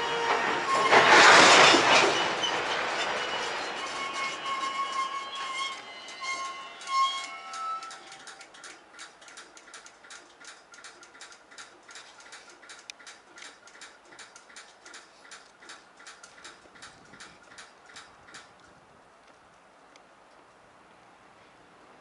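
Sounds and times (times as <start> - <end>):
train wheels clicking over rail joints: 0.0 - 19.4.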